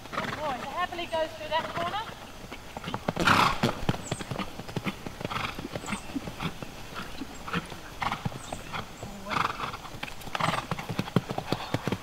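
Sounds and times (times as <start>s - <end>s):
horse hoofbeats on sand: 0.0s - 12.0s.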